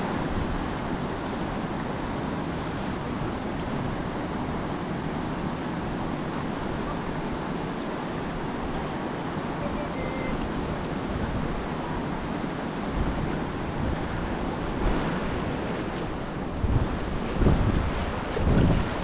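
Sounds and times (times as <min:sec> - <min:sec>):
whitewater rushing: 0:00.0 - 0:19.0.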